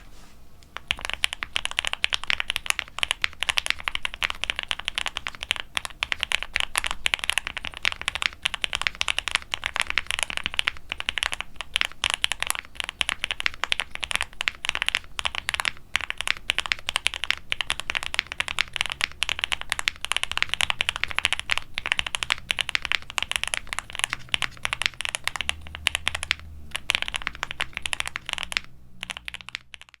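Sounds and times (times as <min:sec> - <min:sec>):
fast typing on mechanical keyboard: 0:00.8 - 0:30.0.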